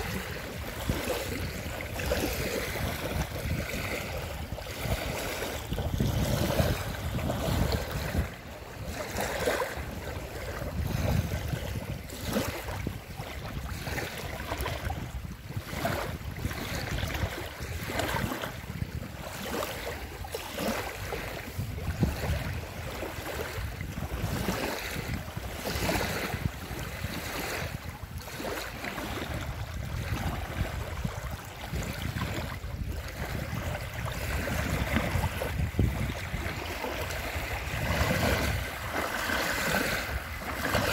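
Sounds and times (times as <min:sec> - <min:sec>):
lake waves lapping on slipway: 0:00.0 - 0:40.9
wind rumble on microphone: 0:00.0 - 0:40.9.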